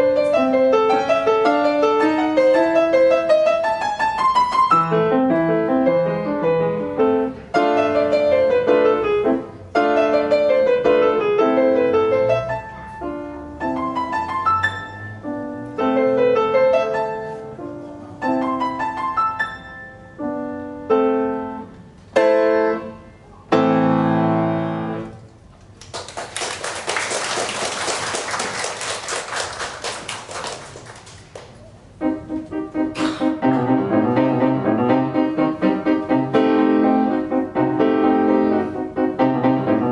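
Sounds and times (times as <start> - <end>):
solo piano piece: 0.0 - 25.5, 31.5 - 39.9.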